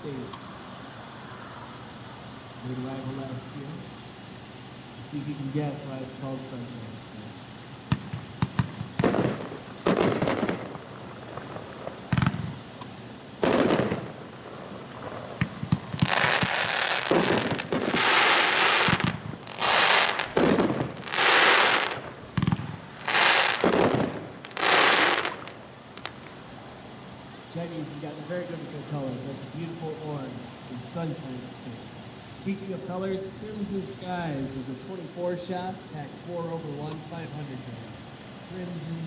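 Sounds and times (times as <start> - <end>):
distant fireworks reports: 0.0 - 39.0
hissing firework bursts: 0.0 - 39.0.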